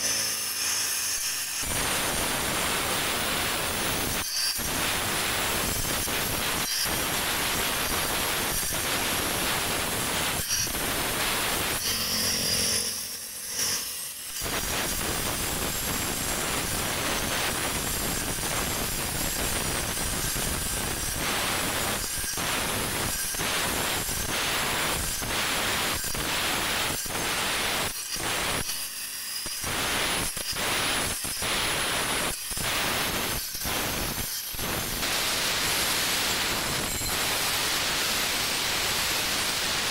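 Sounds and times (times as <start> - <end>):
angle grinder grinding stone: 0.0 - 39.9.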